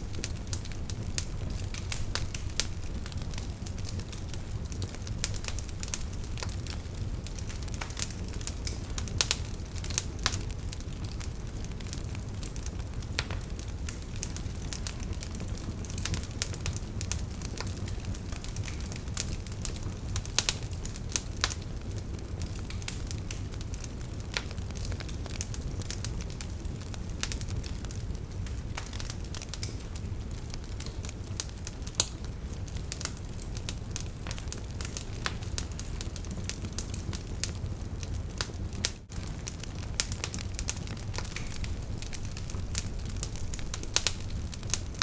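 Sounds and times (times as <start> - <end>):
campfire crackling and popping: 0.0 - 45.0
low rumble of flames: 0.0 - 45.0.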